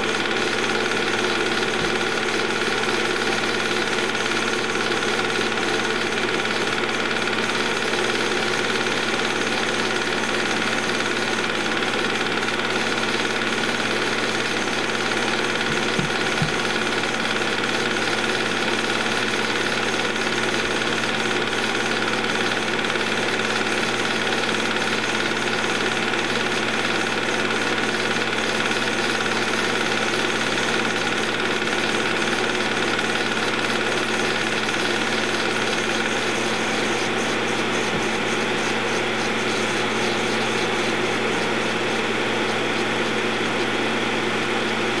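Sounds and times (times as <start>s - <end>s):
movie projector running: 0.0s - 45.0s.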